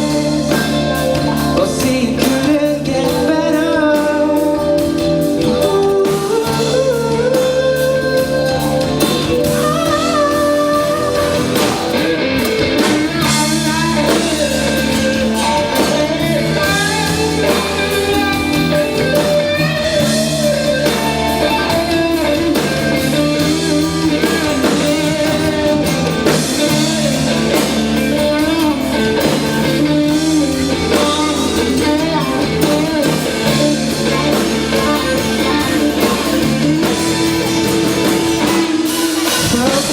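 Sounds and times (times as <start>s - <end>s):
live pop-rock band: 0.0s - 39.9s
person singing: 0.0s - 39.9s.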